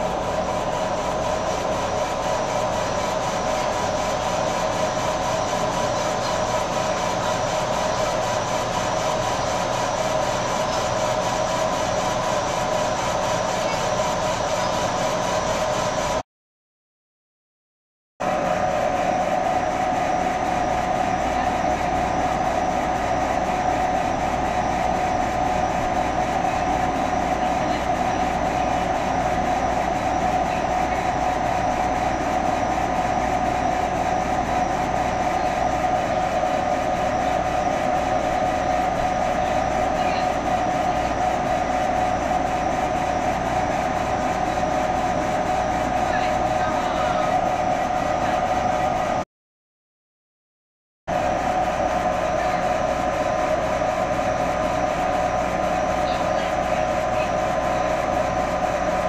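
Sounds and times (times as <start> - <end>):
laser engraver whirring: 0.0 - 16.2, 18.2 - 49.2, 51.1 - 59.0.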